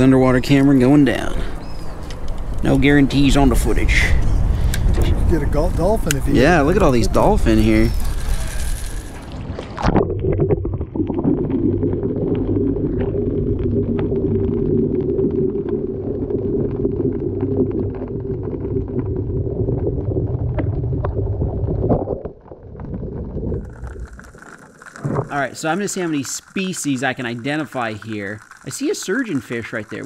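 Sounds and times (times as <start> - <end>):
muffled underwater water rush: 0.0 - 30.0.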